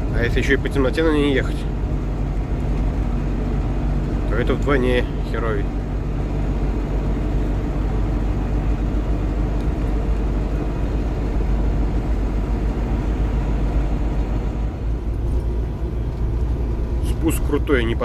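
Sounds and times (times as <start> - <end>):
road and tyre noise: 0.0 - 18.0
truck engine drone: 0.0 - 18.0.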